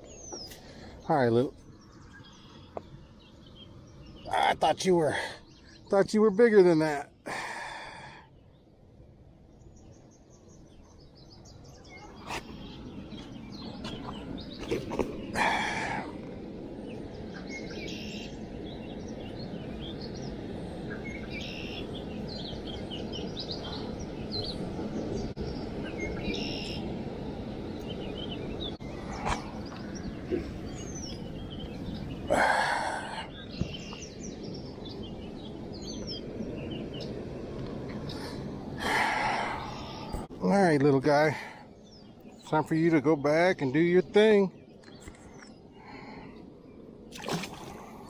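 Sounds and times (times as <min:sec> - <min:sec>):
small birds chirping: 0:00.0 - 0:26.9, 0:27.6 - 0:48.0
low background rush: 0:00.0 - 0:48.0.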